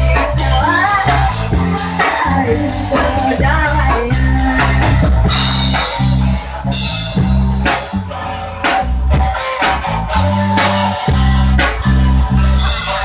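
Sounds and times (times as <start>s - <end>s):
band playing instrumental: 0.0s - 13.0s.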